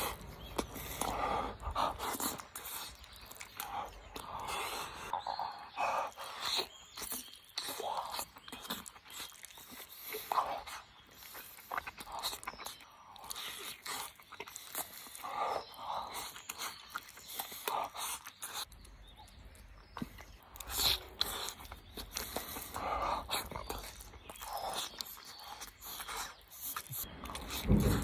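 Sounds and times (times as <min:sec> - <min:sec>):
lip smacks: 0:00.0 - 0:28.0
wet chewing and slurping: 0:00.0 - 0:28.0.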